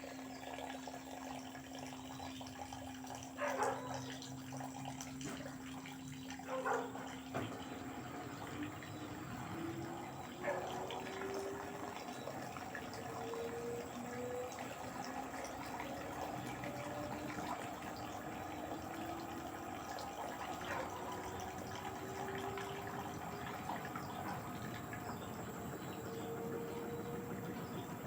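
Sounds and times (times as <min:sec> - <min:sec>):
faint motor whine: 0:00.0 - 0:28.0
water sloshing in washing machine: 0:00.0 - 0:28.0.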